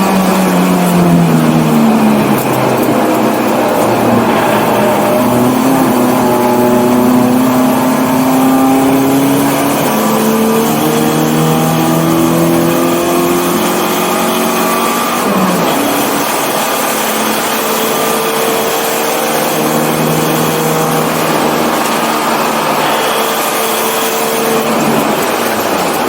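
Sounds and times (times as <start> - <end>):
car engine pulling hard: 0.0 - 26.0.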